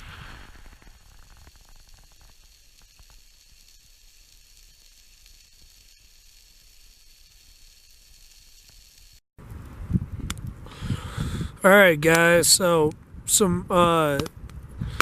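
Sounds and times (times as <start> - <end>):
campfire hissing and crackling: 0.0 - 15.0.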